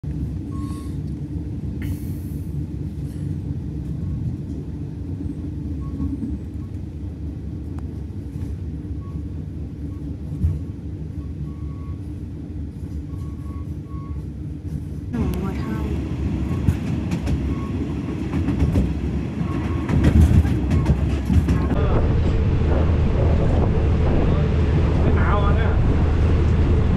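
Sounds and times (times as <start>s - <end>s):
train rumbling: 0.0s - 26.9s.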